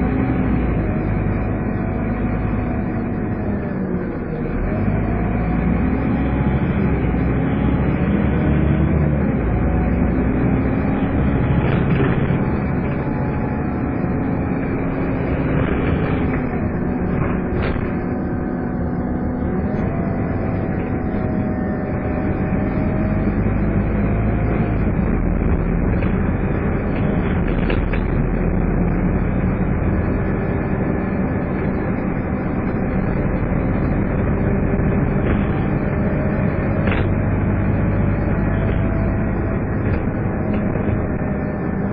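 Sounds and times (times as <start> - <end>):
bus engine running: 0.0 - 41.9
whine of bus: 0.0 - 41.9.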